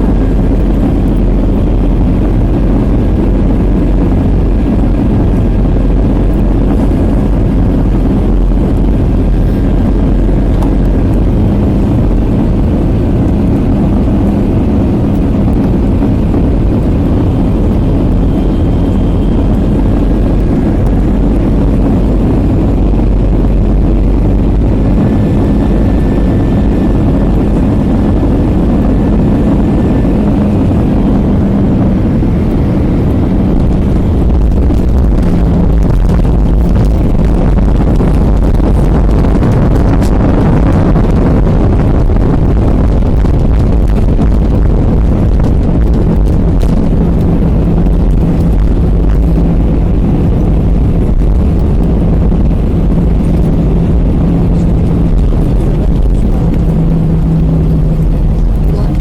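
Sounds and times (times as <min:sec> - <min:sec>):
aircraft engines roaring in cabin: 0:00.0 - 0:59.0
faint humming tone: 0:00.0 - 0:59.0.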